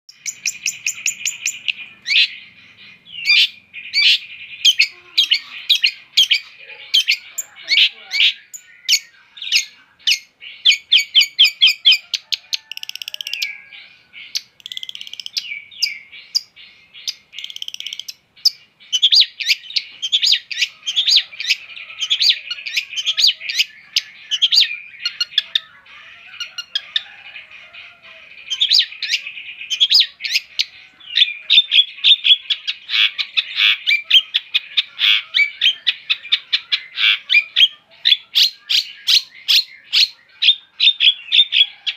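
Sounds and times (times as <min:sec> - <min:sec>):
bird singing chattering notes: 0:00.1 - 0:41.9.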